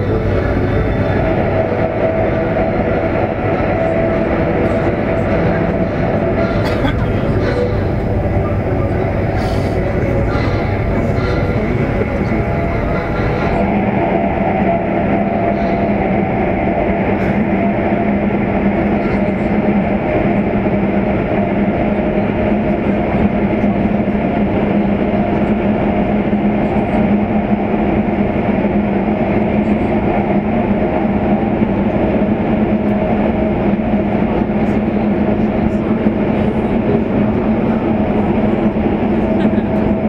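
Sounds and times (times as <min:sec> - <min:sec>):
train rumbling through a tunnel: 0:00.0 - 0:40.0.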